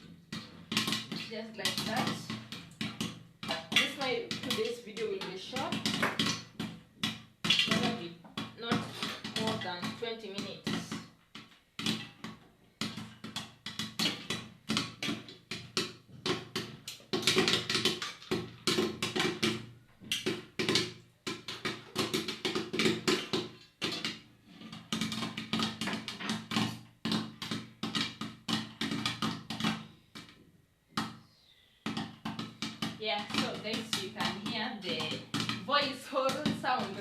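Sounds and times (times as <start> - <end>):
popcorn popping in metal pot: 0.0 - 11.1, 12.8 - 30.2, 31.9 - 37.0.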